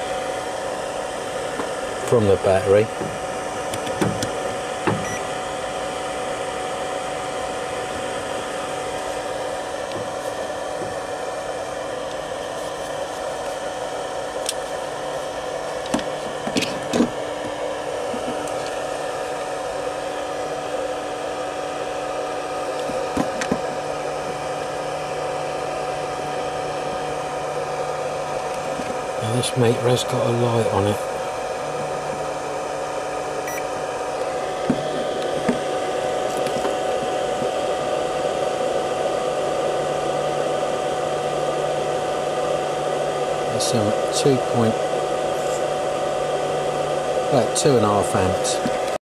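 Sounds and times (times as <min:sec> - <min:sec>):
cooling fan whirring: 0:00.0 - 0:49.0
steady hum: 0:00.0 - 0:49.0.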